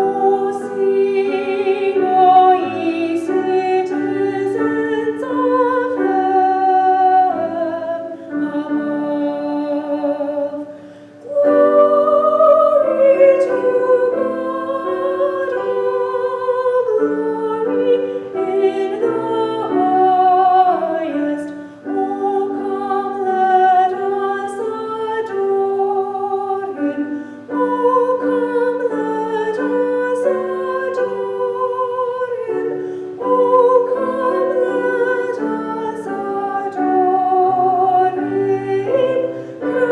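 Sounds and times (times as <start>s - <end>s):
piano: 0.0s - 39.9s
woman singing a hymn: 0.0s - 39.9s.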